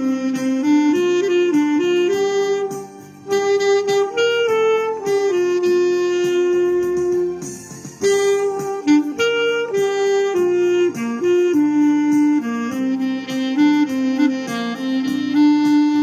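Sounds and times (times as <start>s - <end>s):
clarinet melody: 0.0s - 16.0s.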